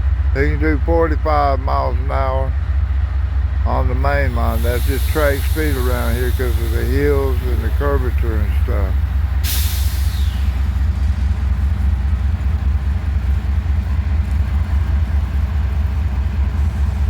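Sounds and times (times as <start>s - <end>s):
deep locomotive engine rumble: 0.0s - 17.0s.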